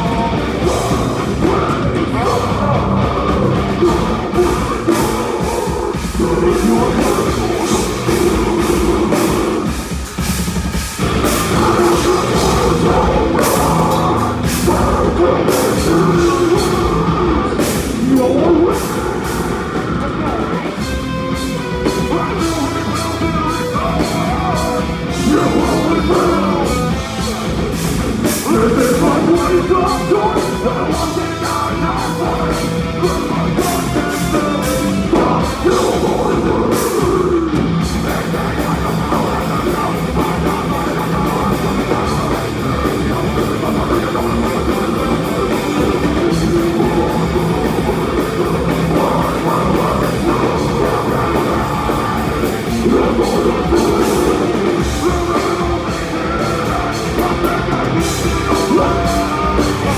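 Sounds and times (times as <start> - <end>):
drum and cymbal hits: 0.0 - 59.9
metalcore band playing live: 0.0 - 59.9.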